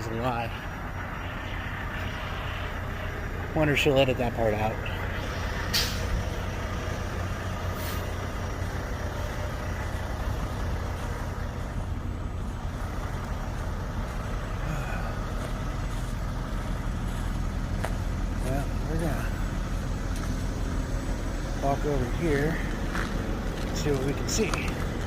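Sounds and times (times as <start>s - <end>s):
diesel truck engines idling: 0.0s - 25.0s.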